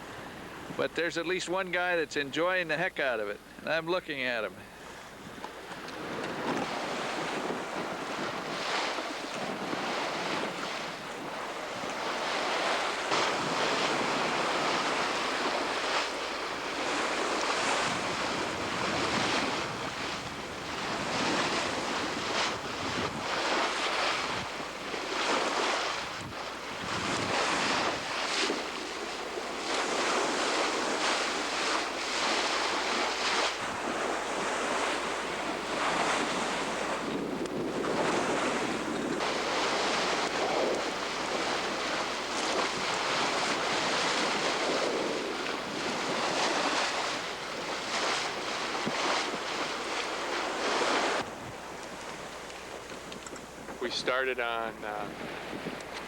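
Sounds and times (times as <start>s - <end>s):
water streaming past hull: 0.0s - 56.0s
wind buffeting microphone: 5.0s - 56.0s
ocean swells rushing: 6.0s - 56.0s.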